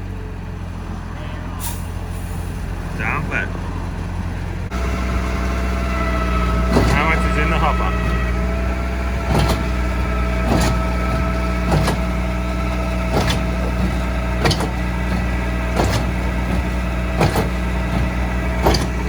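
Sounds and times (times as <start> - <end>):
pump engine hum and whine: 3.0 - 19.0.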